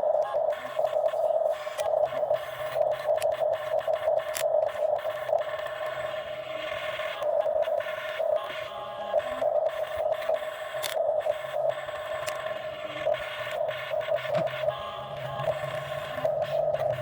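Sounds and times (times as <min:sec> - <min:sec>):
excavator mechanical whine: 0:00.0 - 0:17.0.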